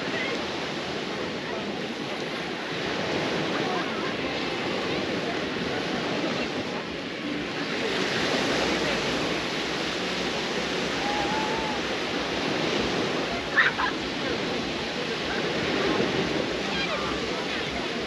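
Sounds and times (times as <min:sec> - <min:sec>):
sea surf washing onto beach: 0:00.0 - 0:18.0.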